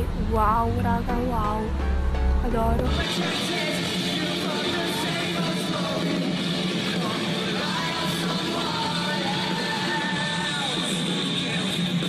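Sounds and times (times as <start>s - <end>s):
distorted guitars: 0.0s - 12.0s
drums: 0.0s - 12.0s
lead vocal: 0.0s - 12.0s.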